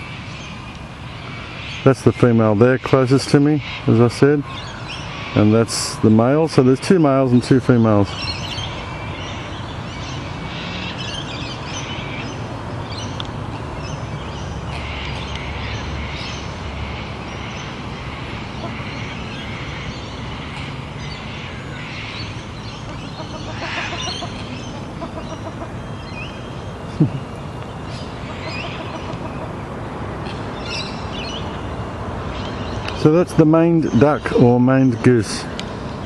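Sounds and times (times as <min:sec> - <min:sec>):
wild birds chirping: 0:00.0 - 0:36.0.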